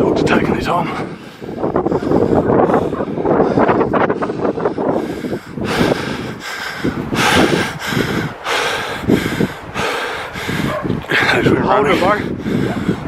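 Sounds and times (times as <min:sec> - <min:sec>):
heavy breathing: 0:00.4 - 0:13.0.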